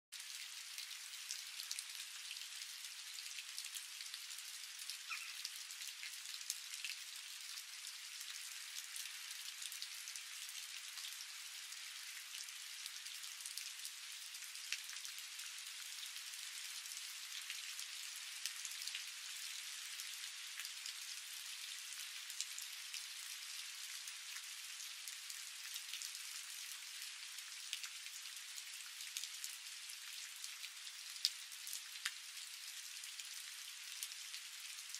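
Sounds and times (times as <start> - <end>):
rain-like hiss: 0.2 - 34.9.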